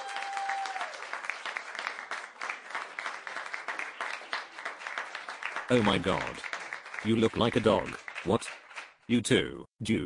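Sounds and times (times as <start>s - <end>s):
crowd applauding: 0.0s - 9.0s.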